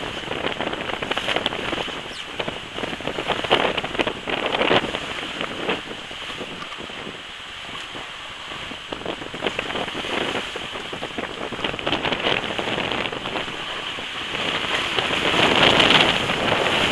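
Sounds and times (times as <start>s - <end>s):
water rushing along boat hull: 0.0s - 16.9s.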